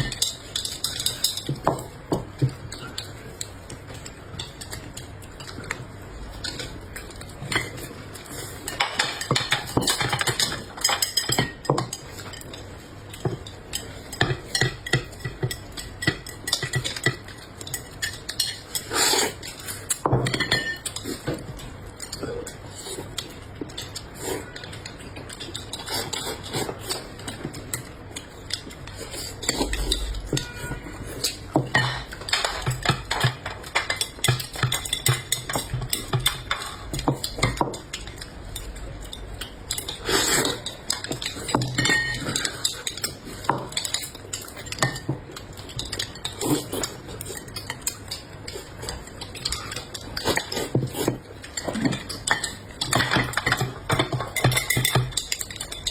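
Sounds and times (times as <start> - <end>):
cutlery clinking on plates: 0.0 - 55.9.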